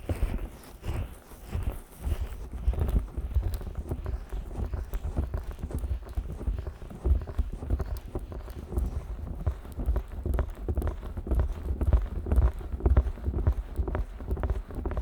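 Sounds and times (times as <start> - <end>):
fingers rubbing microphone ears: 0.0 - 15.0.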